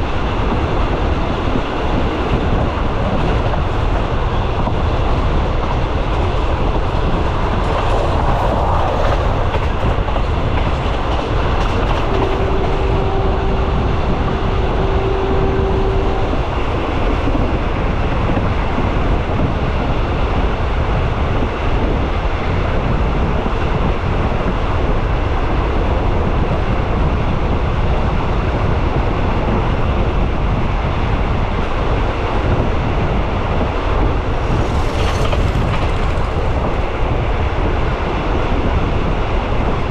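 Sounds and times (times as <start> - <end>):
train running on rails: 0.0 - 39.9.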